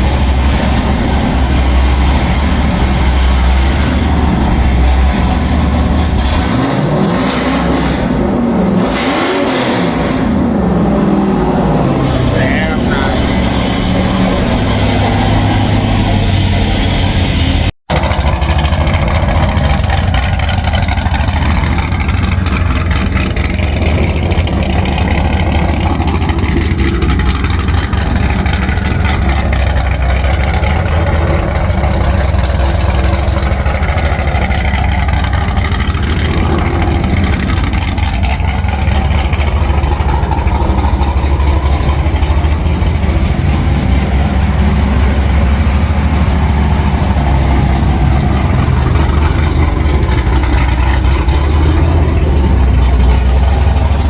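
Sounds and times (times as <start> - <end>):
truck exhaust rumble: 0.0 - 54.0.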